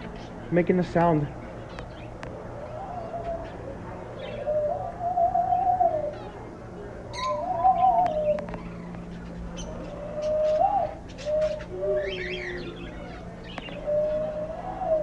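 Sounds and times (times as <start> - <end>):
doves cooing: 0.0 - 15.0
small birds chirping: 0.0 - 15.0.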